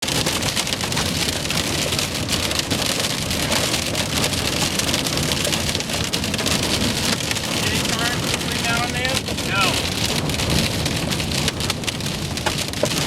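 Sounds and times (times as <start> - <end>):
hail and heavy rain pelting: 0.0 - 13.0
low wind rumble: 0.4 - 13.0.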